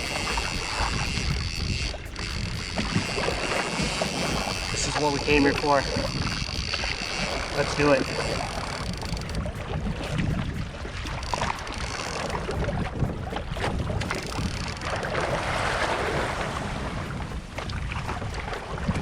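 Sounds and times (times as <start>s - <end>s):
water sloshing around kayak: 0.0s - 19.0s
wind buffeting microphone: 0.0s - 19.0s.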